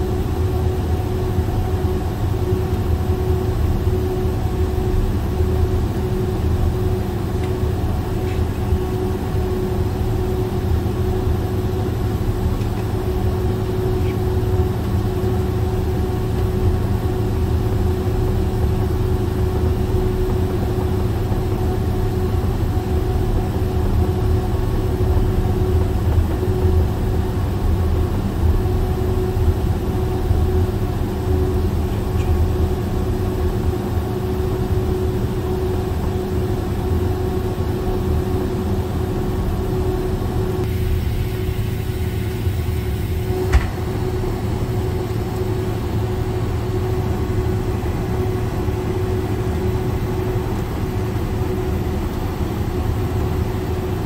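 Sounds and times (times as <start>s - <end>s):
jet engines idling hum: 0.0s - 54.0s.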